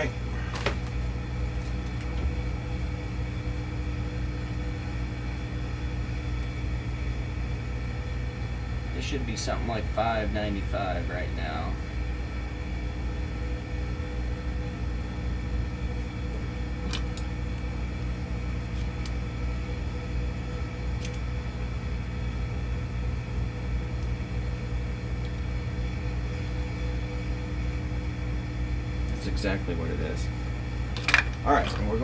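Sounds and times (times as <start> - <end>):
rotary phase converter humming: 0.0 - 32.0.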